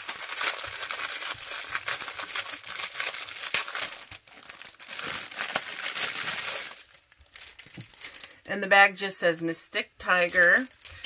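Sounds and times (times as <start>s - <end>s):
crinkly packaging being handled: 0.0s - 8.5s, 10.0s - 11.0s.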